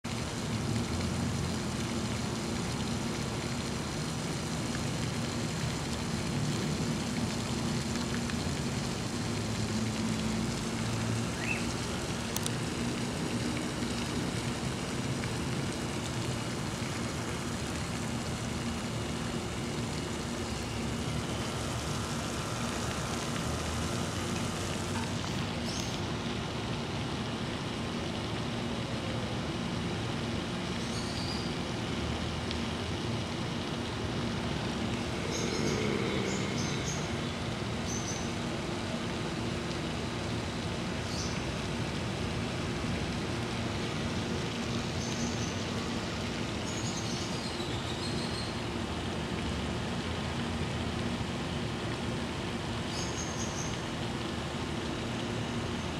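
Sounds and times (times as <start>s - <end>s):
rushing outdoor background noise: 0.0s - 55.9s.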